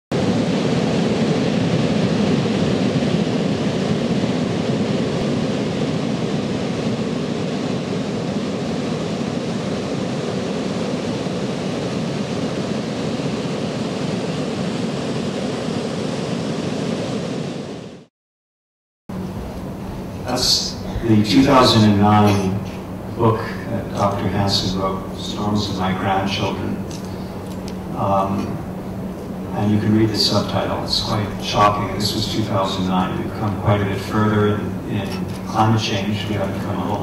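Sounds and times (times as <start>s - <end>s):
ocean waves breaking: 0.1s - 18.1s, 19.1s - 37.0s.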